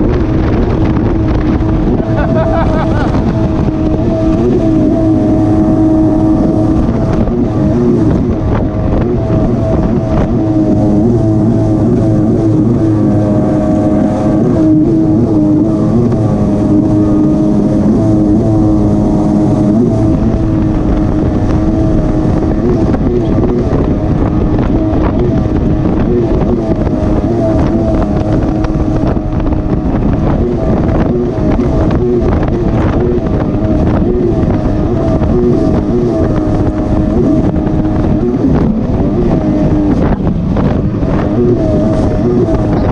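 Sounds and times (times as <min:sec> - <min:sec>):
personal watercraft engine running: 0:00.0 - 0:42.9
rush of wind and water: 0:00.0 - 0:42.9.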